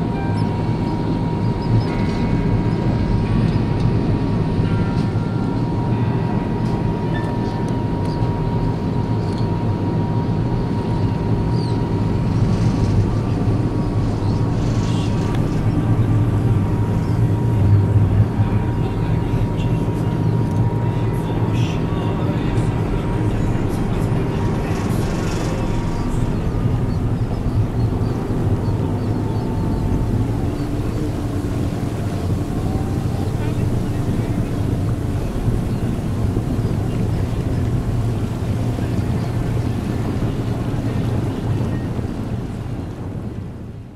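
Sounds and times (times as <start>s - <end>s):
ship engines droning: 0.0s - 43.9s
water rushing: 0.0s - 43.9s.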